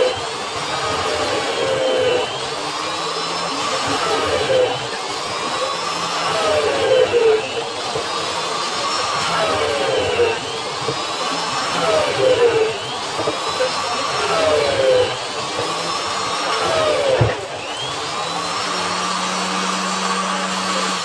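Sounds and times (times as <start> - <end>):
electric power tool under load: 0.0 - 21.0.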